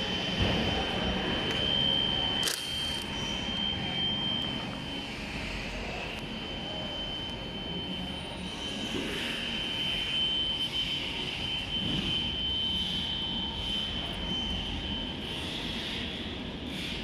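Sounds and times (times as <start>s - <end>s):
machine whine: 0.0s - 17.0s.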